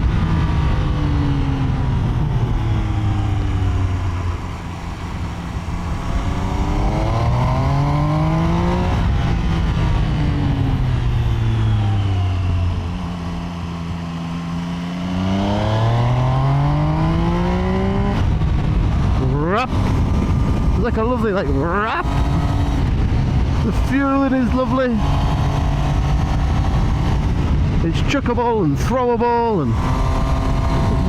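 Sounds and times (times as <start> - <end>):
motorcycle engine revving: 0.0 - 27.9, 29.5 - 31.0.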